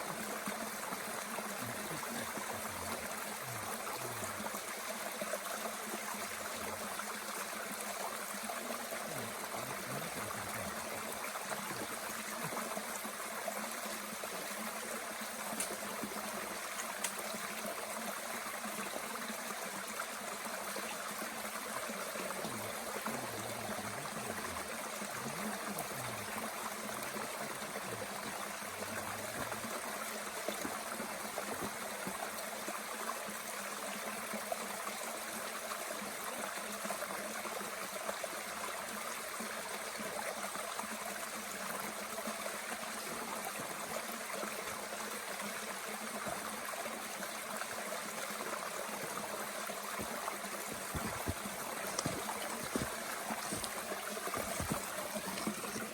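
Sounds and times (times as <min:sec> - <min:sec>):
stream running: 0:00.0 - 0:55.9.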